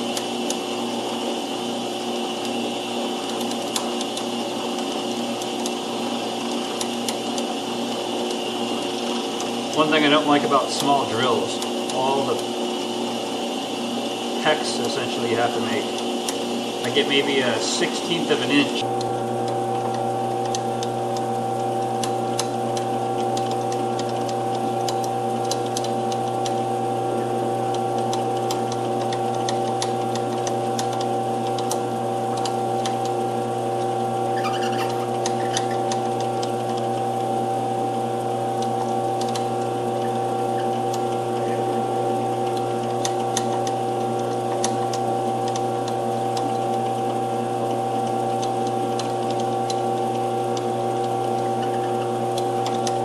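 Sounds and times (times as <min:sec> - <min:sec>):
metal lathe running: 0:00.0 - 0:53.0.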